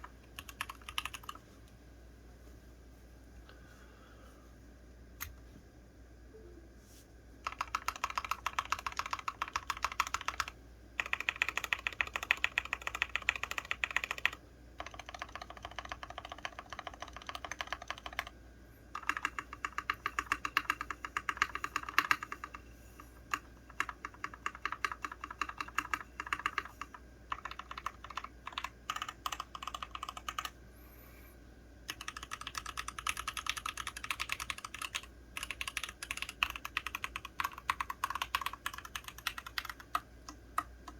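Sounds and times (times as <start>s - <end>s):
mechanical keyboard typing: 0.0s - 1.4s, 7.4s - 22.6s, 23.2s - 30.6s, 31.9s - 40.9s.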